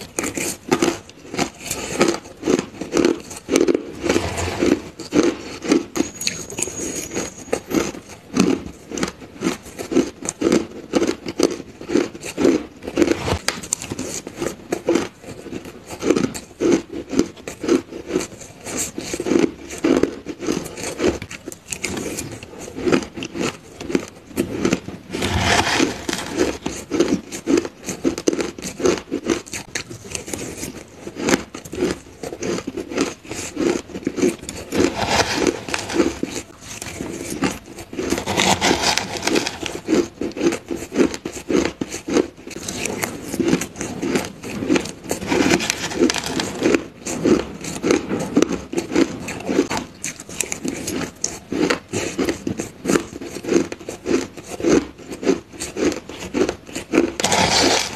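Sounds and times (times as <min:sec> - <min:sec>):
crushed ice being chewed: 0:00.0 - 0:57.9.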